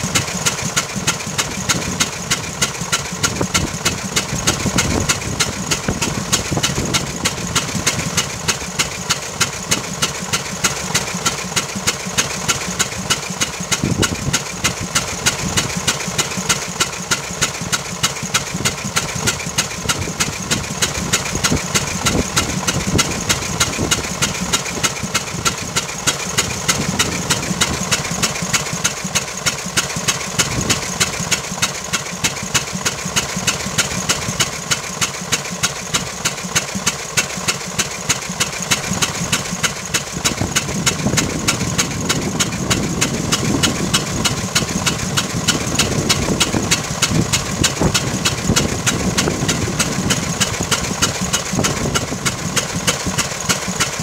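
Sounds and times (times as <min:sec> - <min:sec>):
gasoline engine running: 0:00.0 - 0:54.0.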